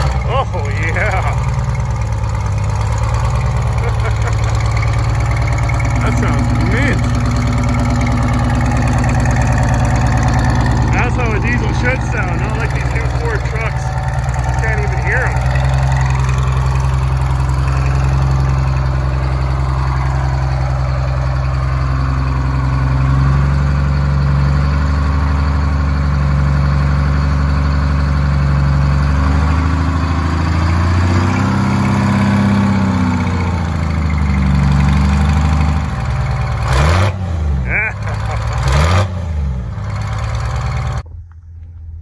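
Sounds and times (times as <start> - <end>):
engine revving: 0.0 - 41.1
truck diesel engine idling loud: 0.0 - 41.1.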